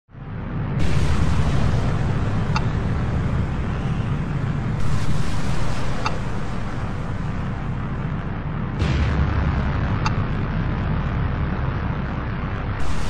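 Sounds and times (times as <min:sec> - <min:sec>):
deep rumbling drone: 0:00.1 - 0:13.0.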